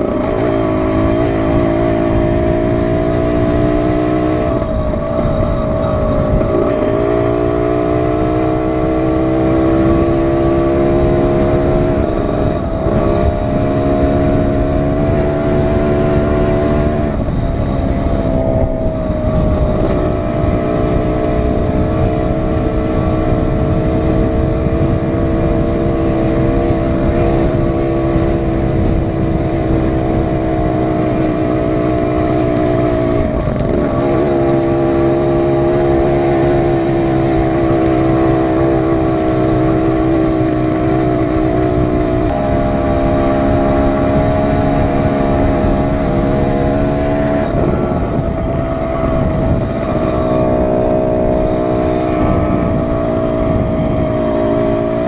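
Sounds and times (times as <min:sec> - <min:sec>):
dirt bike engine running: 0:00.0 - 0:55.0
wind rumble on microphone: 0:00.0 - 0:55.0.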